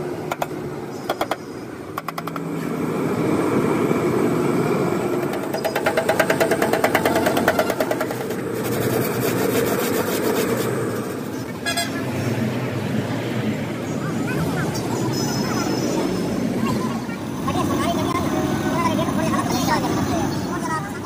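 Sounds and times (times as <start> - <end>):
steady engine hum: 0.0 - 21.0.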